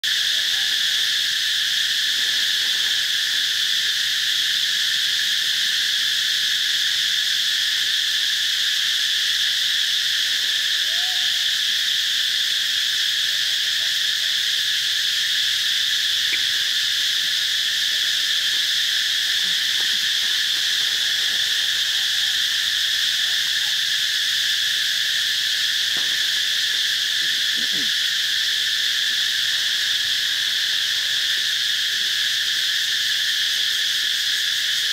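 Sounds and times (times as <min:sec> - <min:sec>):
insects buzzing: 0:00.0 - 0:34.9.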